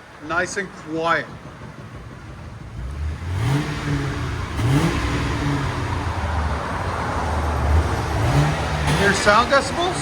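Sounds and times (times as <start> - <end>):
car engine revving: 0.2 - 10.0.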